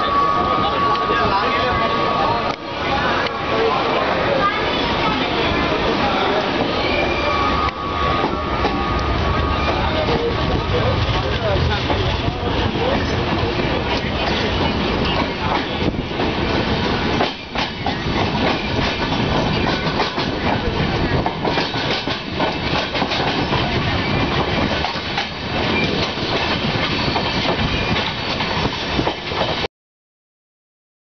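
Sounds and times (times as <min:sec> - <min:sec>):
train rumble and rush: 0:00.0 - 0:29.7.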